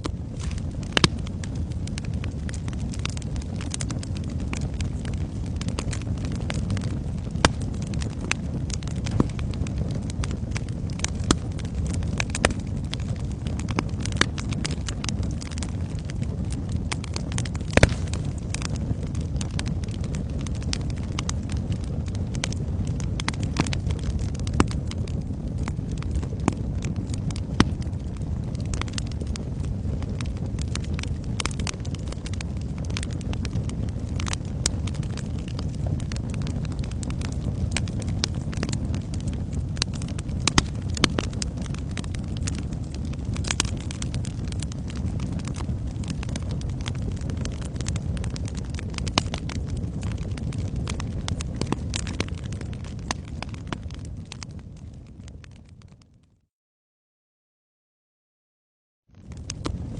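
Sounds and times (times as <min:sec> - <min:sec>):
sharp pops of fire: 0:00.0 - 0:56.0, 0:59.2 - 0:59.9
wood fire crackling: 0:00.0 - 0:56.2, 0:59.2 - 0:59.9.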